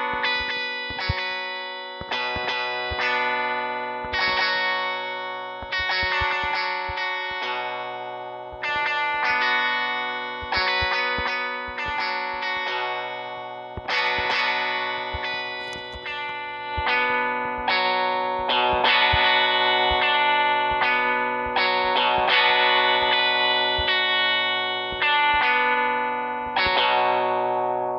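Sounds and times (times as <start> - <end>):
electric guitar ringing chords: 0.0 - 27.9.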